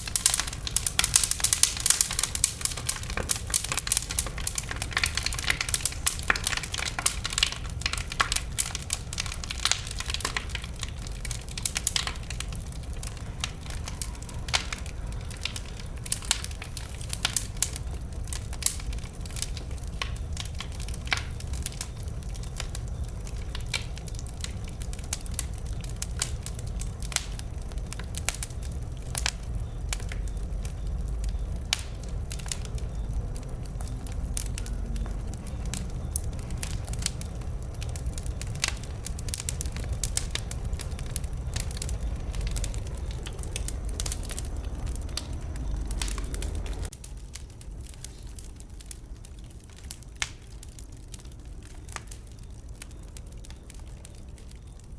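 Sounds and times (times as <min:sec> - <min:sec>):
low steady rumble: 0:00.0 - 0:54.9
wood fire crackling: 0:00.0 - 0:54.9.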